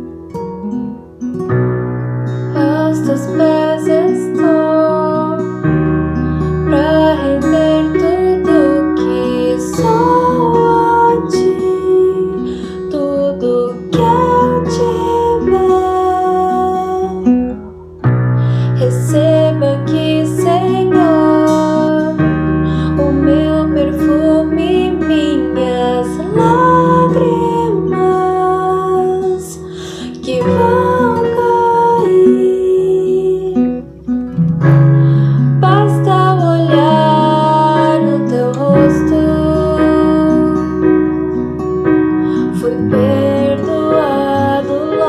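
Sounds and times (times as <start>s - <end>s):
guitar: 0.0s - 45.0s
keyboard: 0.0s - 45.0s
worship song melody: 2.0s - 45.0s.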